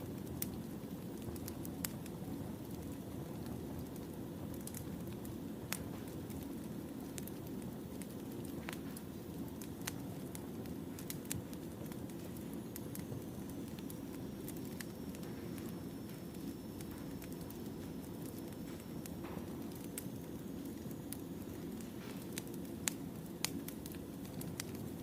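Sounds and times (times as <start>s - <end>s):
burning logs popping: 0.0s - 25.0s
low rush of flame: 0.0s - 25.0s.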